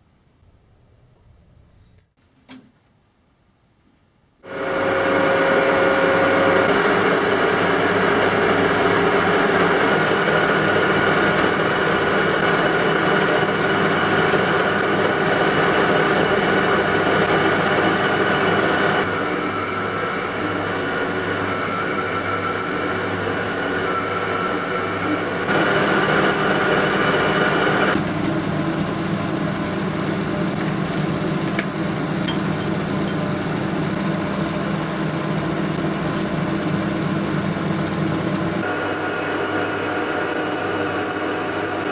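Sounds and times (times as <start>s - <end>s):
workshop machine humming: 4.4s - 41.9s.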